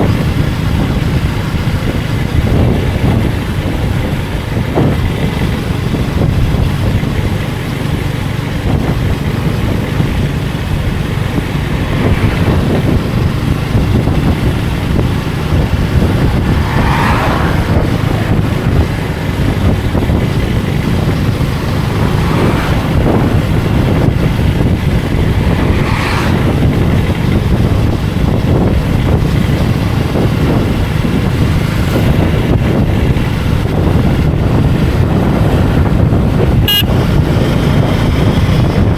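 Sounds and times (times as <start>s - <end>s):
motorcycle engine running: 0.0s - 38.9s
street traffic: 0.0s - 38.9s
wind noise on microphone: 0.0s - 38.9s.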